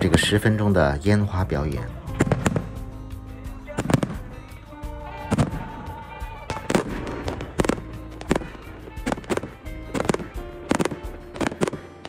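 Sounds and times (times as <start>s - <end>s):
music: 0.0s - 12.0s
fireworks bursting: 2.1s - 12.0s.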